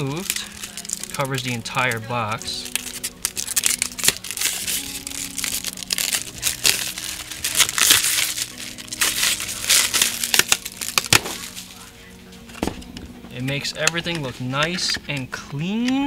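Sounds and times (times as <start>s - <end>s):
plastic film being peeled: 0.0s - 15.3s.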